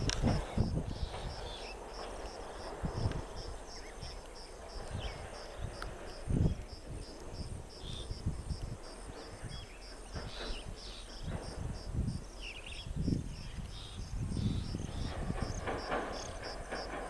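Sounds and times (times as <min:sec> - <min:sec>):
insect chirping steadily: 0:00.0 - 0:17.0.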